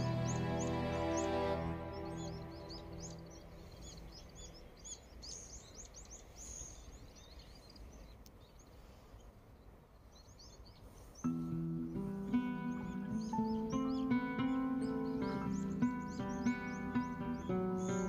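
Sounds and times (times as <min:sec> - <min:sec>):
low outdoor background noise: 0:00.0 - 0:18.0
small birds chirping: 0:00.0 - 0:18.0.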